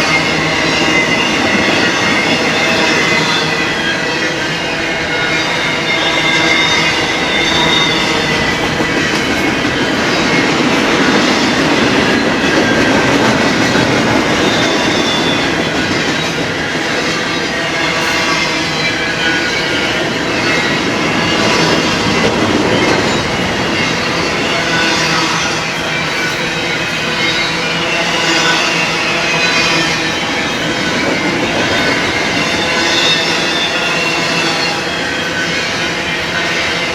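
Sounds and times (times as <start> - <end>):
train wheels rumbling on rail: 0.0 - 36.9
wheel squeal: 0.0 - 36.9.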